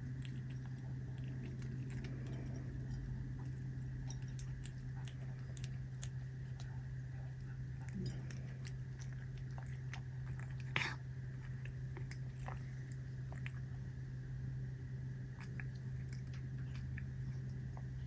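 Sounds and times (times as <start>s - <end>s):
cat crunching dried fish: 0.0s - 14.3s, 15.1s - 18.0s
steady low hum: 0.0s - 18.0s.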